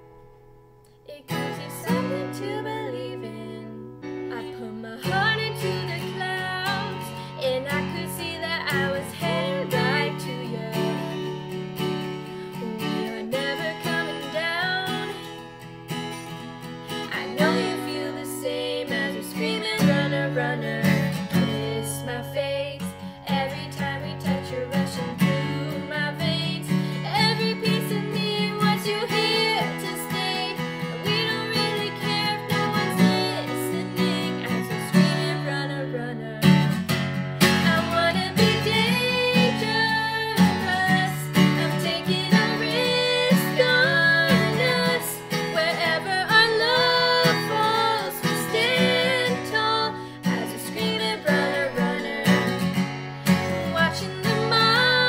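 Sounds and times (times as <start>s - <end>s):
acoustic guitar strumming: 0.0s - 55.0s
woman singing: 1.0s - 11.6s, 12.3s - 15.5s, 16.9s - 36.8s, 37.4s - 55.0s.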